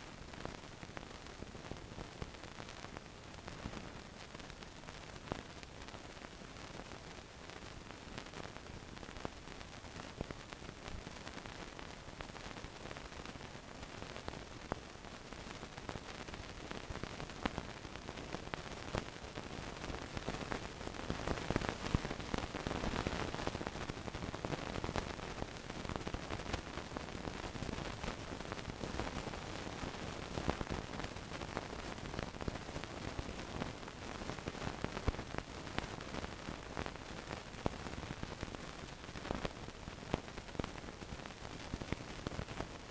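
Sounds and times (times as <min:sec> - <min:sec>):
crackles and clicks: 0:00.0 - 0:42.9
film soundtrack hiss: 0:00.0 - 0:42.9.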